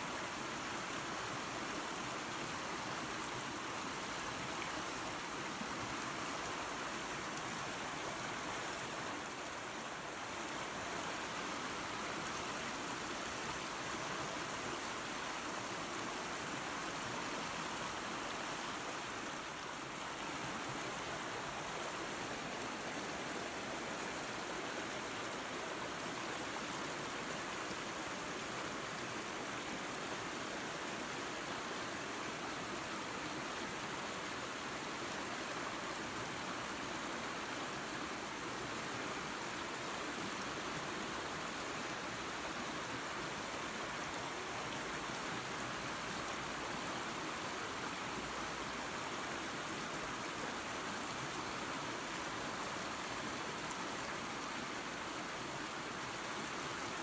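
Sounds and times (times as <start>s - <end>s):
waterfall and creek rushing: 0.0s - 57.0s.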